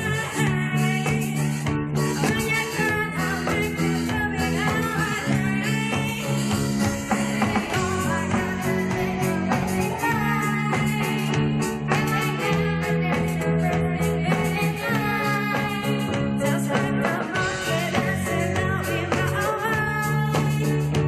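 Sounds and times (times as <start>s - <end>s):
person singing: 0.0s - 21.0s
rock band playing: 0.0s - 21.0s.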